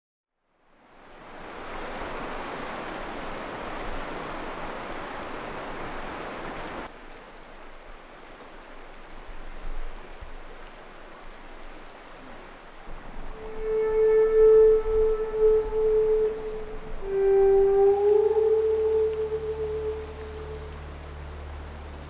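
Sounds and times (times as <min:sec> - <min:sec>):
rushing river water: 0:00.6 - 0:22.0.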